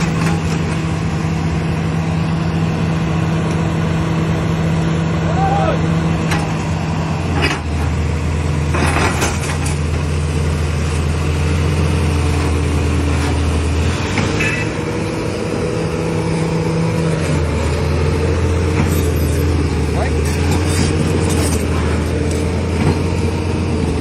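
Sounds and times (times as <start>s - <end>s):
large engine deep hum: 0.0s - 24.0s.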